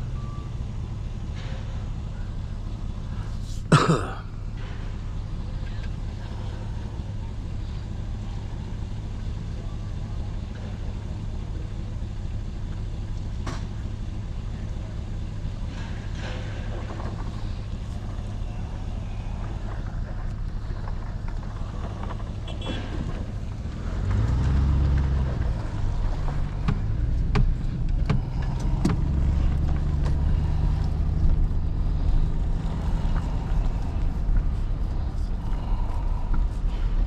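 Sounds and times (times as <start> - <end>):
truck engine idling and revving: 0.0 - 37.0.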